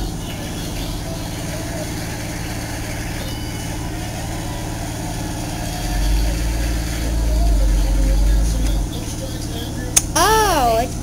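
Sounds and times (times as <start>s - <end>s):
heavy engine idling: 0.0s - 9.9s.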